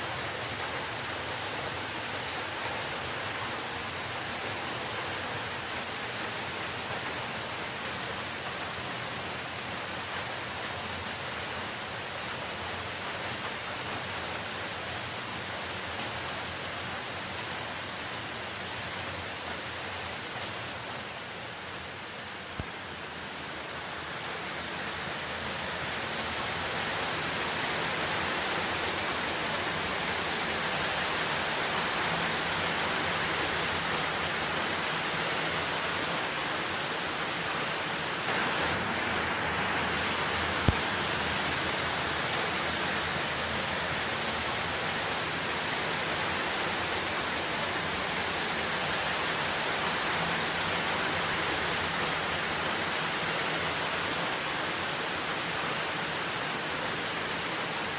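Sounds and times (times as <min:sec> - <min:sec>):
rainfall hiss: 0:00.0 - 0:57.9.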